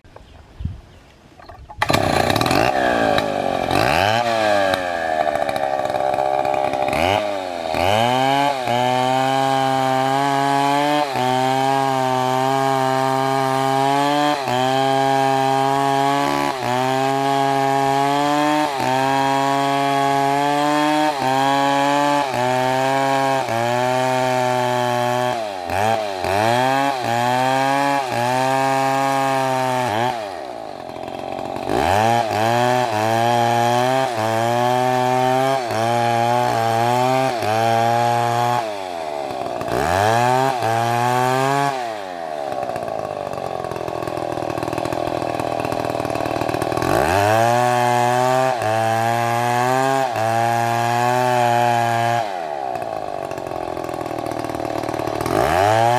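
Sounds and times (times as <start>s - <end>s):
chainsaw cutting wood: 1.4s - 55.9s.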